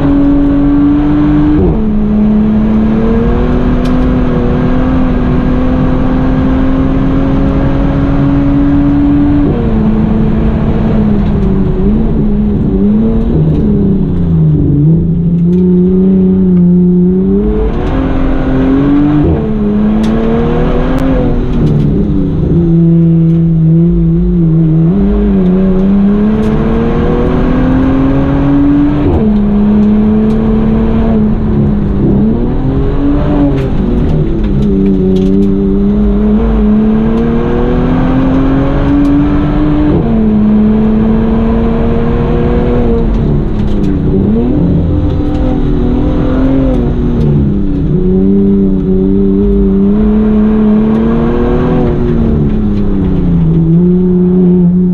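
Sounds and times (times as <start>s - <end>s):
car engine under hard driving: 0.0s - 54.9s.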